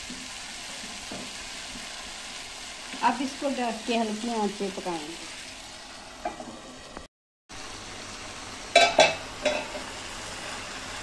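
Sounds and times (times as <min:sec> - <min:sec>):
chillies sizzling in a pan: 0:00.0 - 0:11.0.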